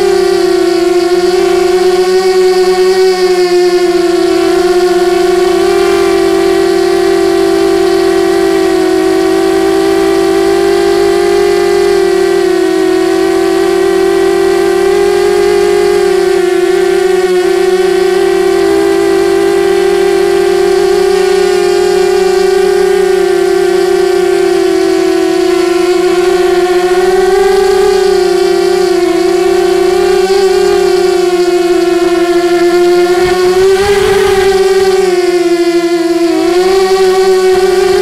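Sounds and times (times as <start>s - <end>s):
drone motors and propellers whining: 0.0s - 38.0s.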